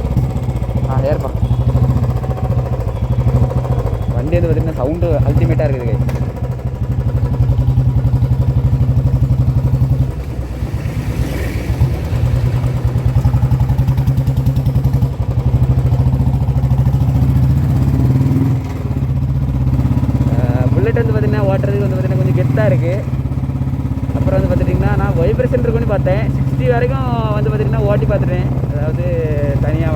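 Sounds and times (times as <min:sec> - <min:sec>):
motorcycle engine thumping: 0:00.0 - 0:29.9.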